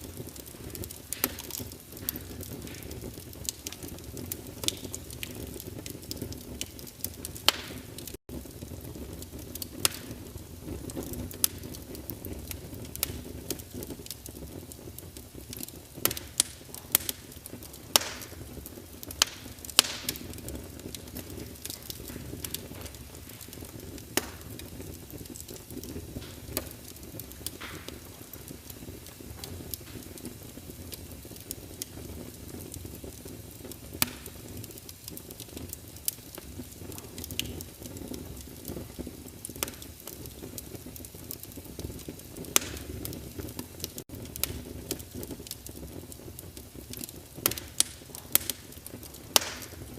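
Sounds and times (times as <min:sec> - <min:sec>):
burning logs crackling and popping: 0:00.0 - 0:49.9
low rumble of flames: 0:00.0 - 0:49.9.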